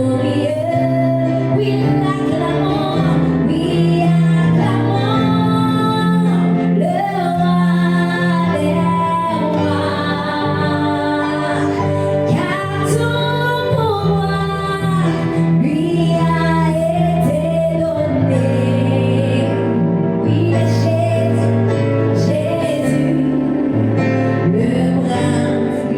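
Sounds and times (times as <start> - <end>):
sustained instrumental accompaniment: 0.0 - 25.9
woman singing: 0.0 - 25.9.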